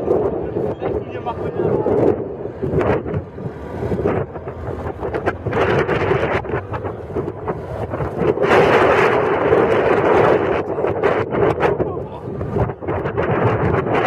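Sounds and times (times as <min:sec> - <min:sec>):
car rumble: 0:00.0 - 0:14.0
wind buffeting microphone: 0:00.0 - 0:14.0.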